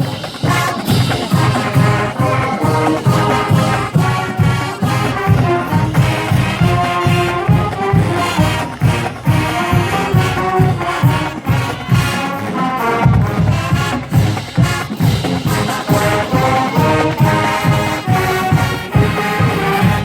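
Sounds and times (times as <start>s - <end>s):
brass and trombones: 0.0s - 20.0s
steady drum beat: 0.0s - 20.0s.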